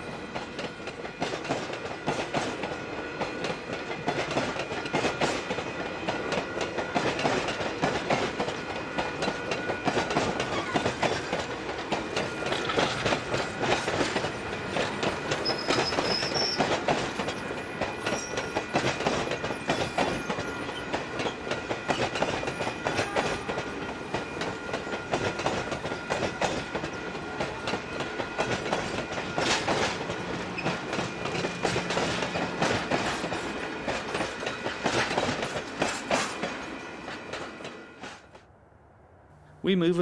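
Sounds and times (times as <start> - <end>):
train wheels clicking over joints: 0.0 - 38.5.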